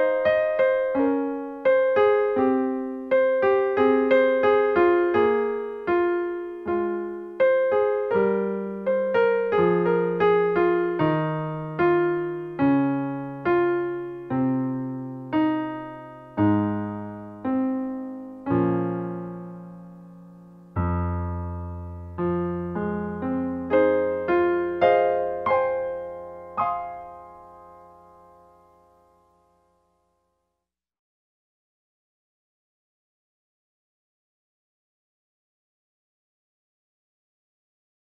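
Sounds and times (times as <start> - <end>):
solo piano music: 0.0 - 30.4.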